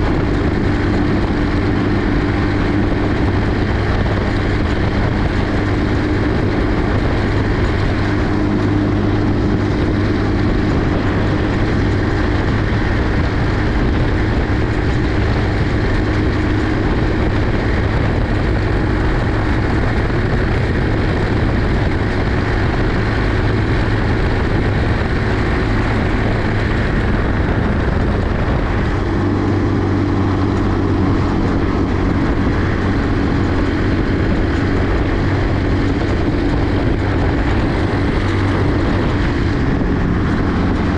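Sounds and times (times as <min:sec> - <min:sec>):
road noise: 0:00.0 - 0:40.9
small buggy engine running: 0:00.0 - 0:40.9
wind rush: 0:00.0 - 0:40.9.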